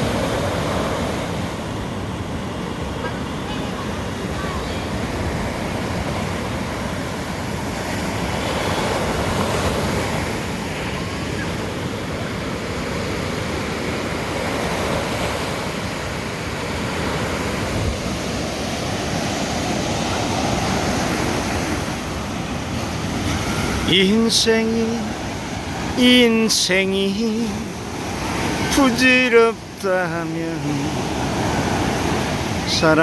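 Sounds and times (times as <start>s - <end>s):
sea surf breaking on beach: 0.0s - 33.0s.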